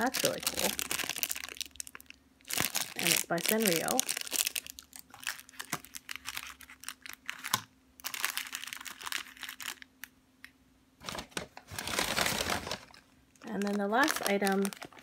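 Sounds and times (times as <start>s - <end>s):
plastic packaging crinkling: 0.0s - 10.1s, 11.0s - 15.0s.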